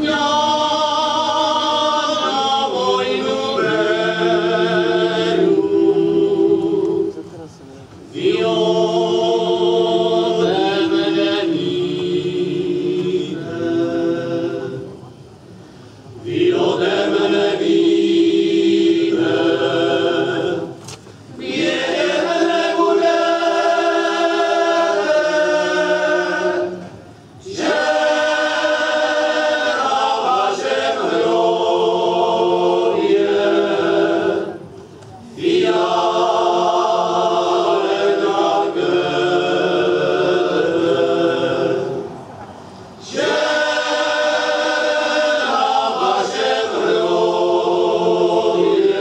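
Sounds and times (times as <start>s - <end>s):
men's choir singing in harmony: 0.0s - 7.4s, 8.0s - 15.2s, 16.1s - 49.0s.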